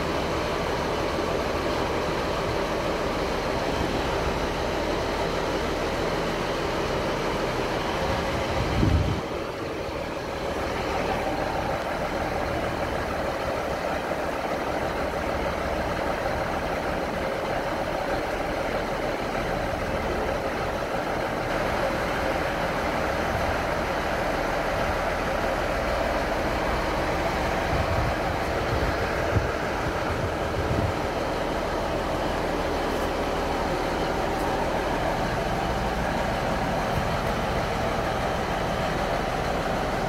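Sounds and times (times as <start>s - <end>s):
train engine running: 0.0s - 40.0s.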